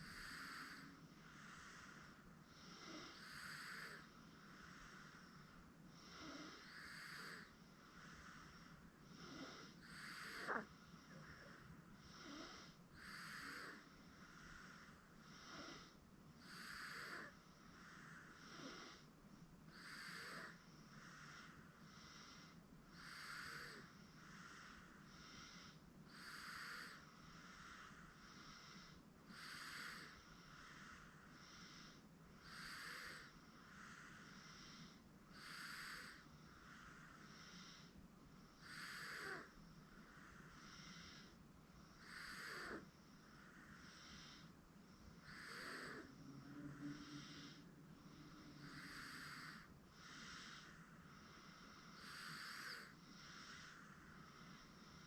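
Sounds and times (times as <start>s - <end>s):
baby breathing with light snore: 0.0s - 55.0s.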